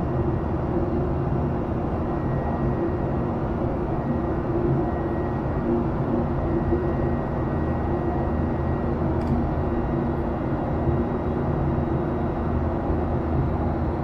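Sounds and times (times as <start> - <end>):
jet engine cabin drone: 0.0 - 14.0.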